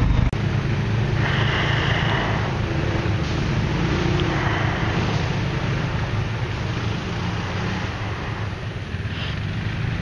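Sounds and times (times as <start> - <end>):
quad bike engine running: 0.0 - 10.0
rushing wind and wheels: 0.0 - 10.0.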